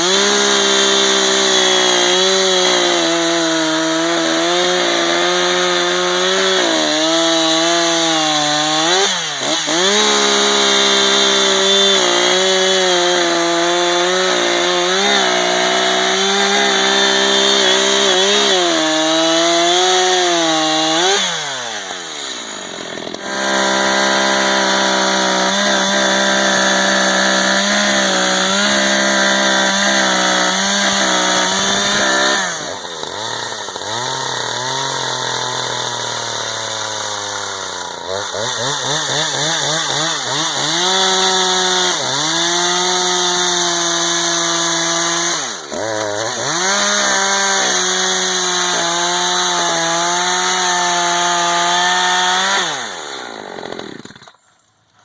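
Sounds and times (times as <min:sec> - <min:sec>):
chainsaw running at high revs: 0:00.0 - 0:54.4.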